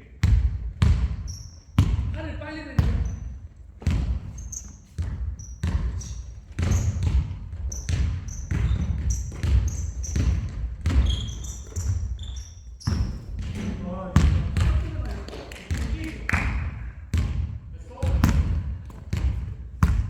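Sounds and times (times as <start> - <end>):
sneakers squeaking: 0.2 - 2.1, 2.7 - 15.8, 18.0 - 20.0
basketballs bouncing on wood floor: 0.2 - 20.0.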